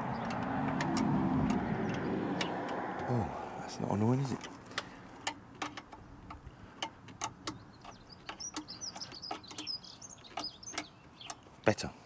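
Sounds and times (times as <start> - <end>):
tool clicking and tapping on nuts: 0.0 - 3.2, 4.1 - 11.6
small birds chirping: 0.0 - 5.1, 5.9 - 12.0.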